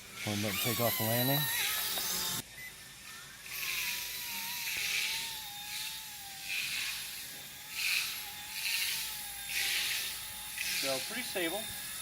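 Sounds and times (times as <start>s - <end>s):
toy helicopter rotor whine: 0.0s - 12.0s.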